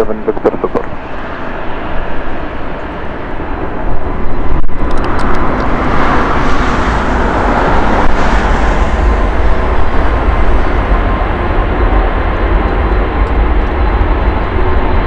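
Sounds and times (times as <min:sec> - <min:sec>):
jet engines at takeoff power: 0:00.0 - 0:15.0.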